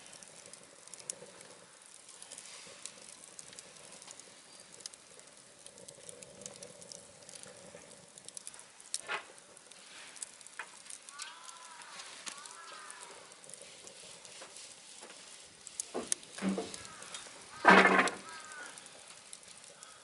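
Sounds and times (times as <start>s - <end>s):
soft fire hiss: 0.0s - 20.0s
wood fire crackling: 0.0s - 20.0s.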